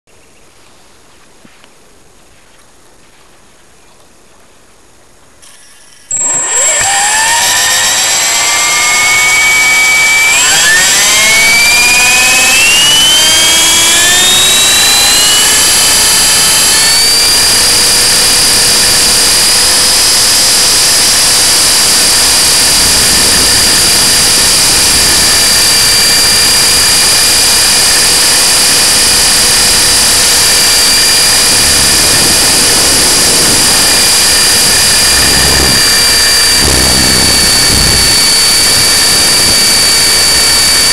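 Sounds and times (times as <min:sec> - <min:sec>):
rc helicopter motor whine: 0:05.4 - 0:40.9.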